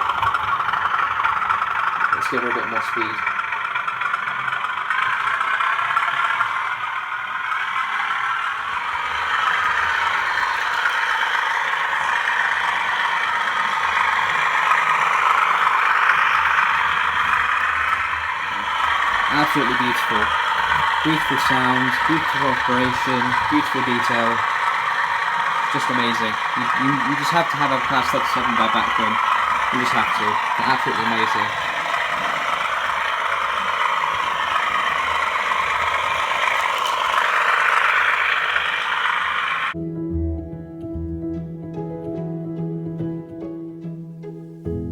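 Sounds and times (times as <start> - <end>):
diesel engine sound through small speaker: 0.0 - 39.8
model train mechanism and wheels running: 0.0 - 39.8.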